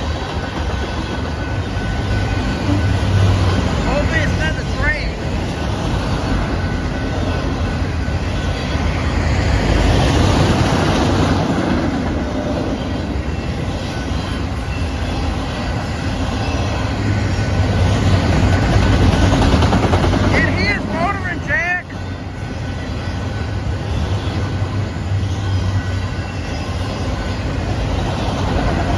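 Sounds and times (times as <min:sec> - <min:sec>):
freight train wheels rumbling: 0:00.0 - 0:28.9.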